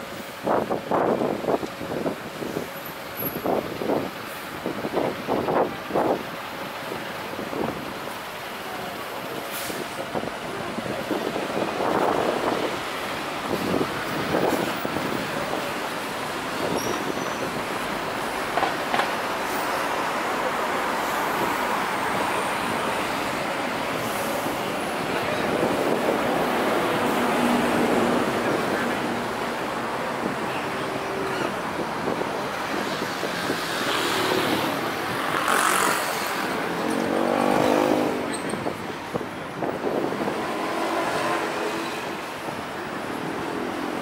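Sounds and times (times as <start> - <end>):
passing traffic: 0.0 - 44.0.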